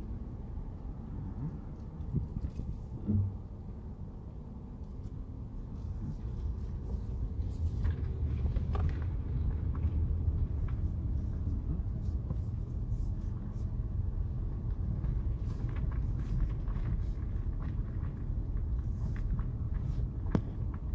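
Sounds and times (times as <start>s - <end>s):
car engine and road rumble: 0.0s - 20.9s.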